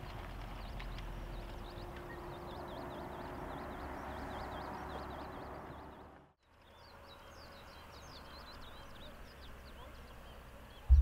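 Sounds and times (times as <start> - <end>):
bird chirping: 0.4 - 11.0.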